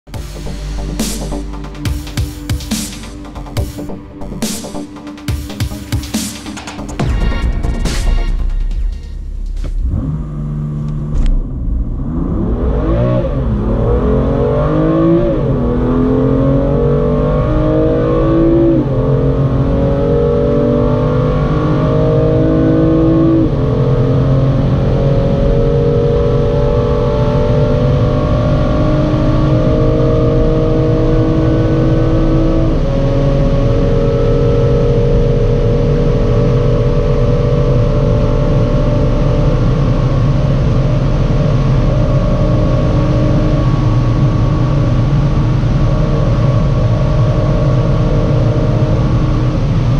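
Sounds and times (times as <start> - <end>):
car engine accelerating with upshifts: 9.4 - 49.9.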